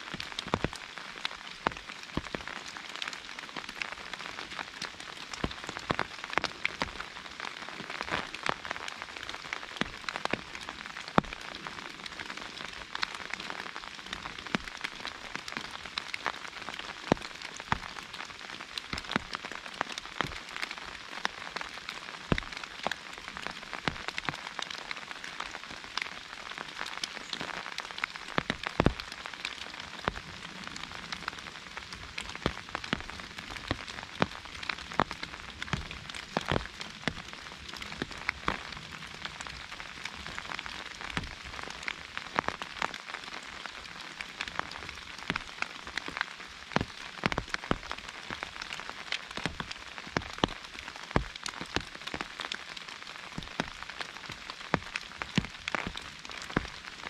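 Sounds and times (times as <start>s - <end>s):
rain hissing on foliage: 0.0s - 57.0s
rain pattering on an umbrella: 0.0s - 57.0s.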